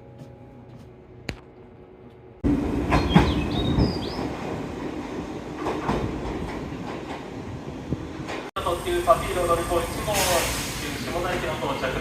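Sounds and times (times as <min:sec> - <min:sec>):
train wheels rumbling: 0:02.1 - 0:12.0.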